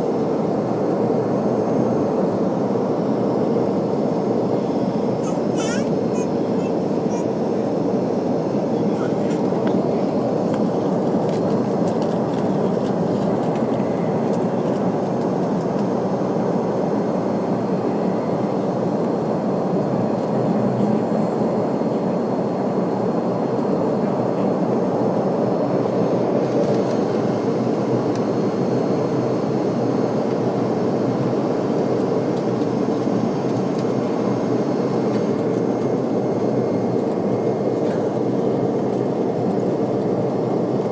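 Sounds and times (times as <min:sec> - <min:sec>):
jet cabin engine rumble: 0:00.0 - 0:40.9.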